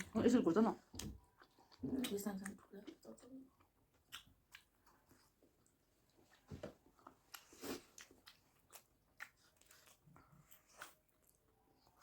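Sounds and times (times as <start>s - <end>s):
faint chewing mouth sounds: 0.0s - 12.0s.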